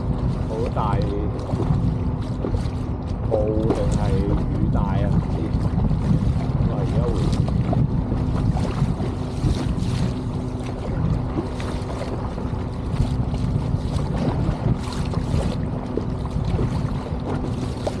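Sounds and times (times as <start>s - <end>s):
choppy sea: 0.0s - 18.0s
strong wind buffeting microphone: 0.0s - 18.0s
water splashing against boat: 0.0s - 18.0s.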